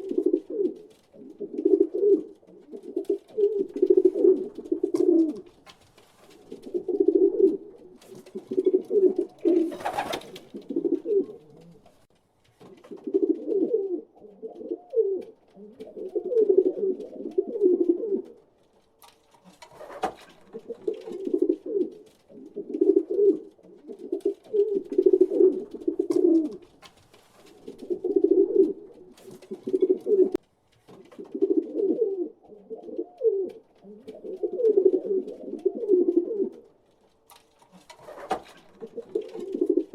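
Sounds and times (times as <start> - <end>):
pigeons cooing: 0.0 - 5.7, 6.3 - 12.1, 12.8 - 18.4, 19.5 - 26.8, 27.4 - 30.4, 31.1 - 36.7, 37.7 - 39.9.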